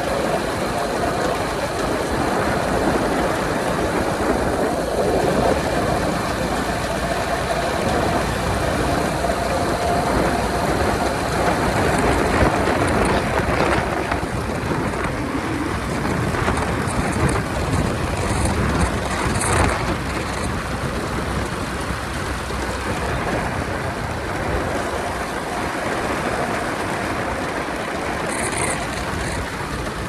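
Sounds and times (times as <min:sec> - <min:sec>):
motorcycle engine drone: 0:00.0 - 0:30.0
wind rushing over microphone: 0:00.0 - 0:30.0.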